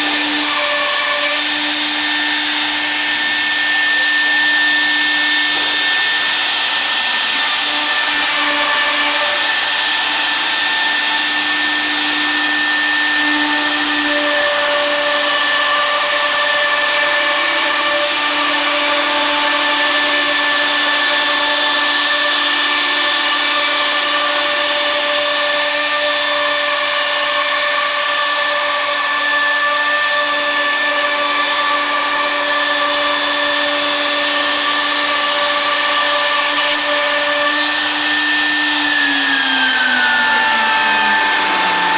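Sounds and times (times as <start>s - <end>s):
router spindle whining while cutting wood: 0.0s - 41.9s.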